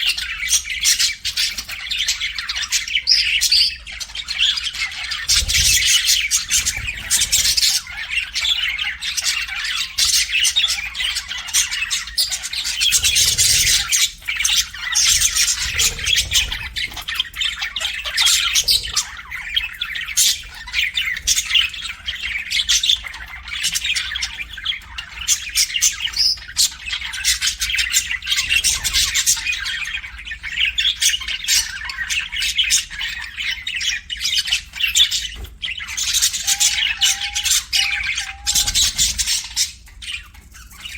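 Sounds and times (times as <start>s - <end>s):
budgerigars chattering and squawking: 0.0s - 40.9s.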